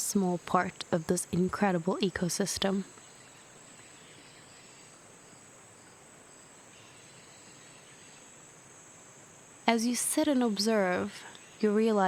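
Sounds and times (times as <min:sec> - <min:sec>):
soft even hiss: 0:00.0 - 0:12.0.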